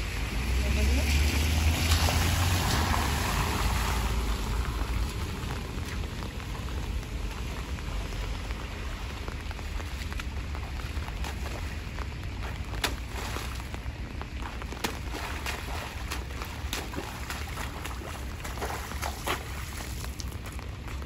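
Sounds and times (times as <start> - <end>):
car tyres swishing through water: 0.0 - 21.0
rain falling on wet asphalt: 0.0 - 21.0.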